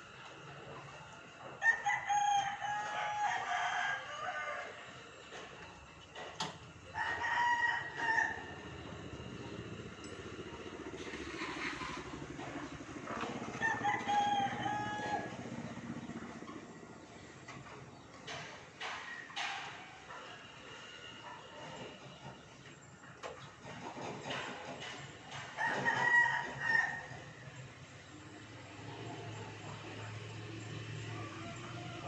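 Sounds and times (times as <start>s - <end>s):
roosters crowing: 0.0s - 5.9s, 6.5s - 9.9s, 10.9s - 22.7s, 23.6s - 32.0s.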